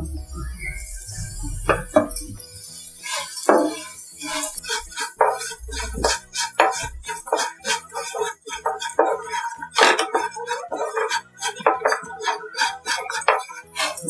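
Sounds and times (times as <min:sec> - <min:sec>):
background music: 0:00.0 - 0:14.0
wooden spatula scraping pan: 0:01.5 - 0:14.0.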